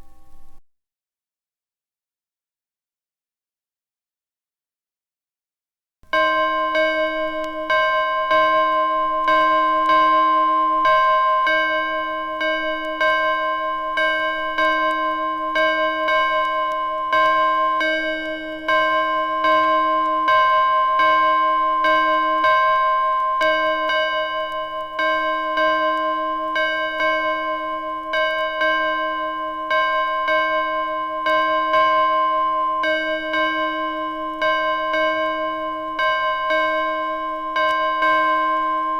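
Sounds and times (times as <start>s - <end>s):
bell ringing: 6.1s - 38.9s.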